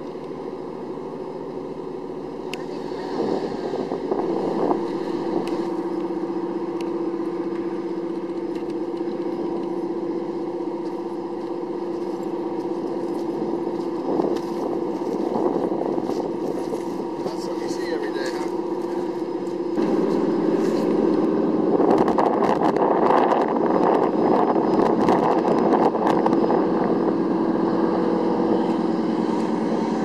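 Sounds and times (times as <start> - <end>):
diesel engine droning: 0.0 - 30.0.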